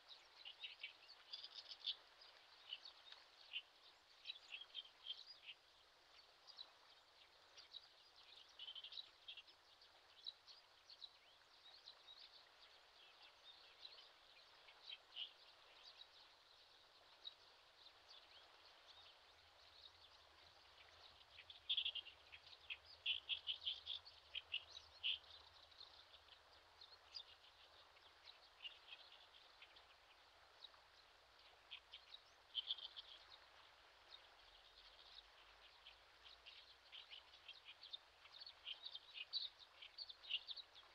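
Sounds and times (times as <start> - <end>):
faint bird chirps: 0.0 - 40.9
soft background hiss: 0.0 - 40.9.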